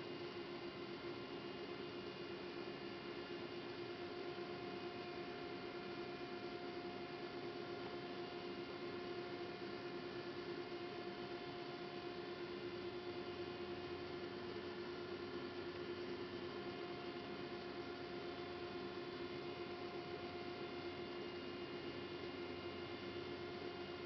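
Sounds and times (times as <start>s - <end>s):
lathe electrical hum: 0.0s - 24.0s.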